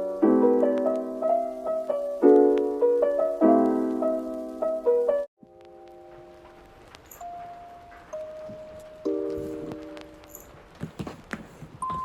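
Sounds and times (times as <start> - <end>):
soft piano piece: 0.0 - 10.8.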